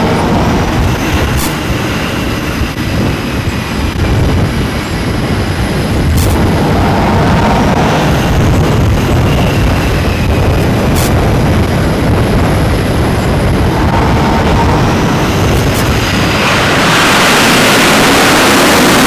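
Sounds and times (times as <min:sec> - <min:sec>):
high turbine whine: 0:00.0 - 0:19.0
jet engines roaring: 0:00.0 - 0:19.0.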